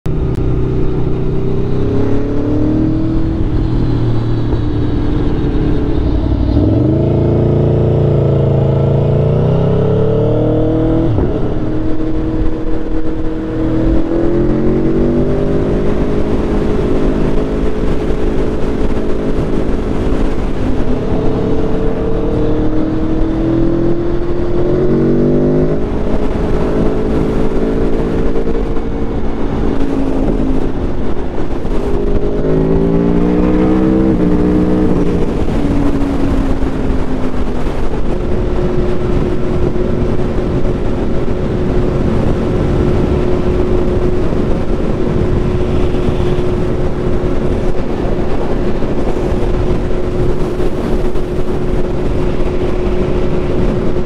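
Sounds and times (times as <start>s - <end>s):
motorcycle engine at speed: 0.1s - 54.0s.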